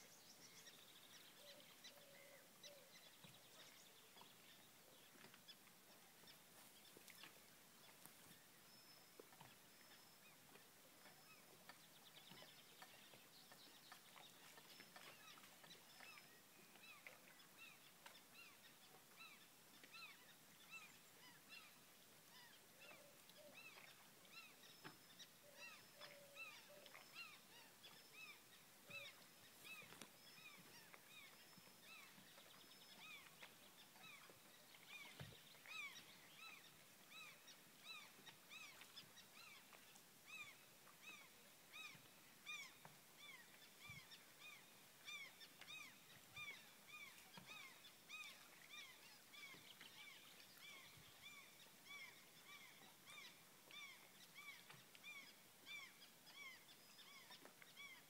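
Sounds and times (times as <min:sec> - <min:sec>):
faint bird calls: 0:00.0 - 0:58.0.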